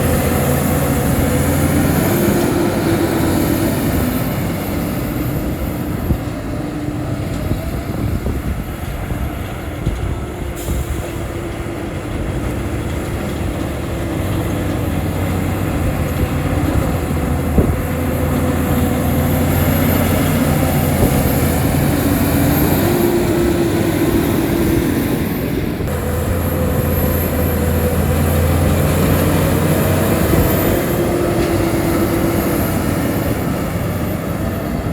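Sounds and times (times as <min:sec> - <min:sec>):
bulldozer diesel engine under load: 0:00.0 - 0:34.9.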